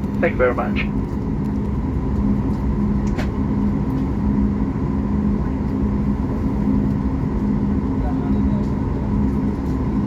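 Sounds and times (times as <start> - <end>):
airliner cabin hum: 0.0 - 10.0.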